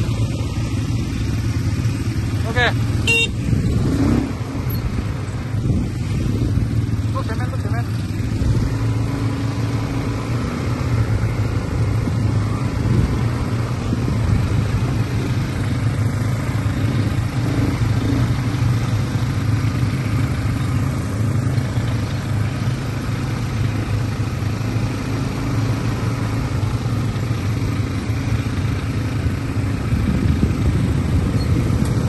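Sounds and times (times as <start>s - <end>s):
quad bike engines running: 0.0s - 32.0s.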